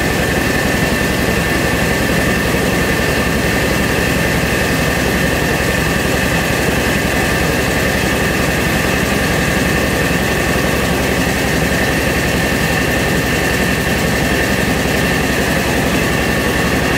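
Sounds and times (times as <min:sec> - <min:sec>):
rice mill machine running: 0:00.0 - 0:16.9.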